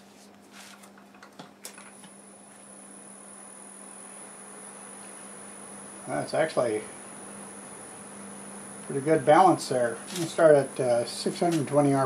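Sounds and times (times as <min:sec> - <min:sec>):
lathe motor whine: 0:02.1 - 0:12.0.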